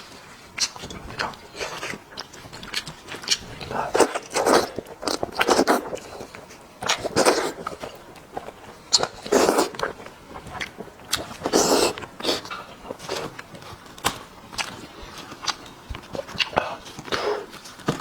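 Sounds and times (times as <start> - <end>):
wet chewing and sucking: 0.0 - 18.0.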